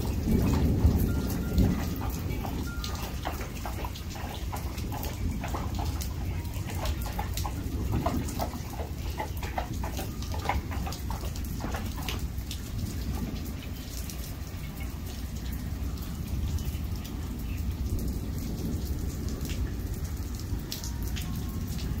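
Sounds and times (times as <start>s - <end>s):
drops splashing: 0.0s - 22.0s
heavy rain falling: 0.0s - 22.0s.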